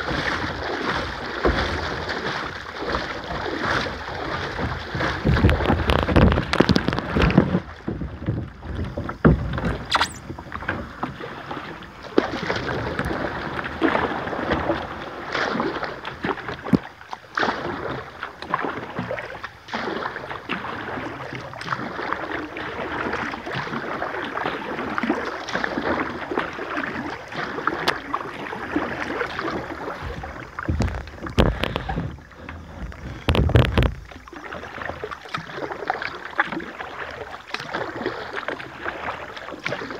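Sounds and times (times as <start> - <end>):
paddle strokes splashing in water: 0.0 - 39.9.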